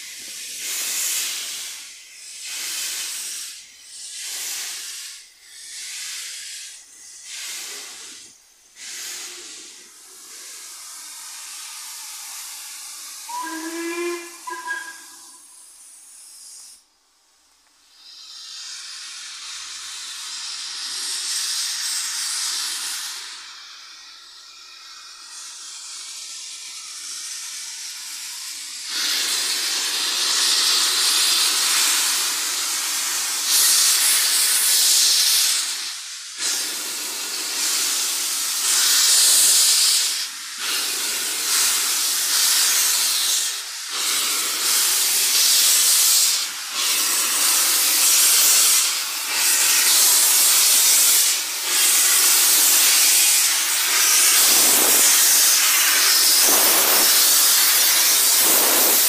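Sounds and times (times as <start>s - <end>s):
steam locomotive hissing steam: 0.0s - 59.0s.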